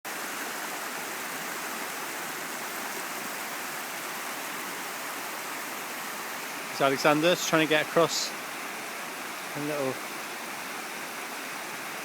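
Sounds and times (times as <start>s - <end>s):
river water rushing over stones: 0.1s - 12.0s.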